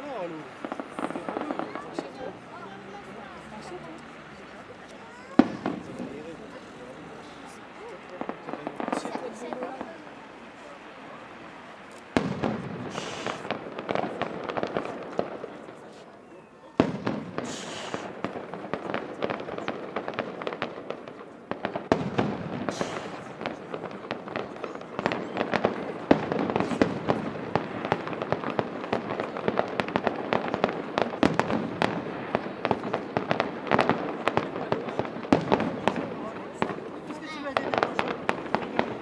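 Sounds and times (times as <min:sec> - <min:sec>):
firework bang: 0:00.2 - 0:02.3, 0:03.0 - 0:10.1, 0:11.2 - 0:15.8, 0:16.8 - 0:39.0
crackle of firework pops: 0:00.4 - 0:02.3, 0:04.0 - 0:06.6, 0:07.2 - 0:10.1, 0:11.8 - 0:39.0.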